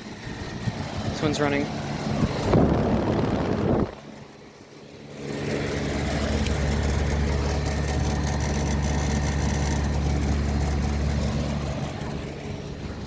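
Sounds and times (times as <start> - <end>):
condenser fan rushing: 0.0 - 13.0.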